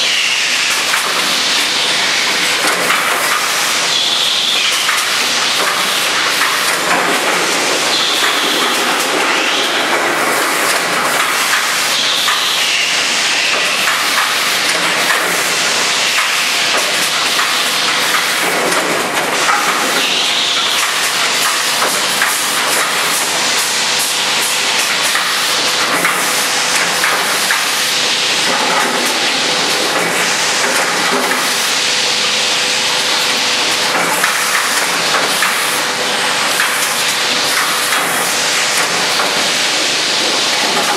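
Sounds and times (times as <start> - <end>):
machine mechanical clatter: 0.5 - 31.7, 32.6 - 40.9.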